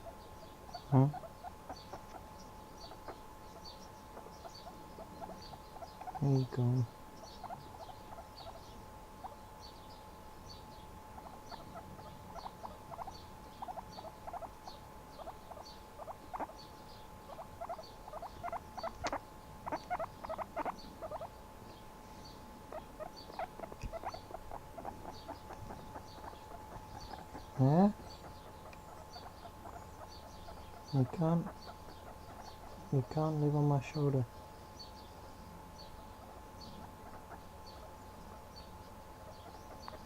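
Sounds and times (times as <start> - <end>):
guinea pig squeaking: 0.0 - 21.4, 22.7 - 34.0, 35.7 - 40.0.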